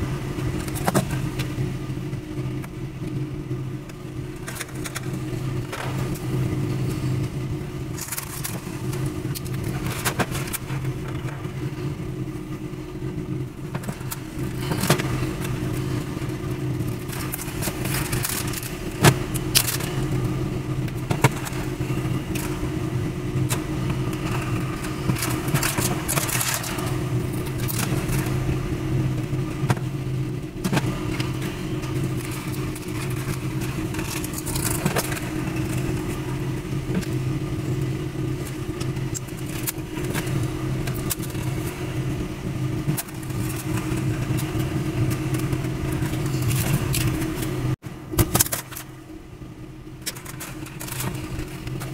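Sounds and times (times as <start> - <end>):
low mechanical hum: 0.0 - 51.9.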